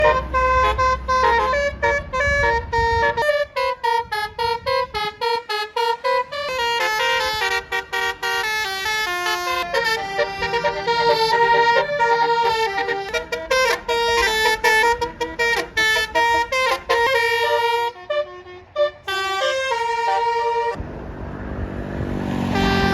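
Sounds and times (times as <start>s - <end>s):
bus horn playing a tune: 0.0s - 20.8s, 22.4s - 22.9s.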